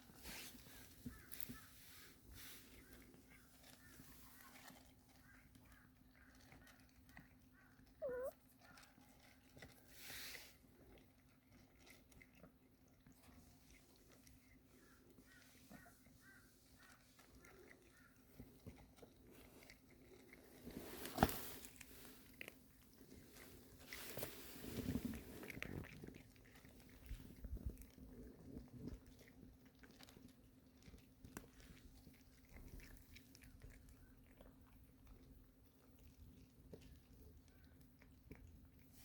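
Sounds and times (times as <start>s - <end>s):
cat crunching dry food: 0.0s - 39.0s.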